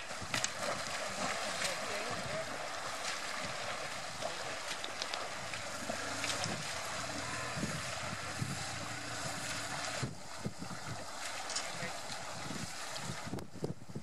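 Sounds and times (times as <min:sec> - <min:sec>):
splashing from wading: 0:00.0 - 0:13.3
rushing river water: 0:00.0 - 0:13.6
wind buffeting microphone: 0:00.0 - 0:14.0.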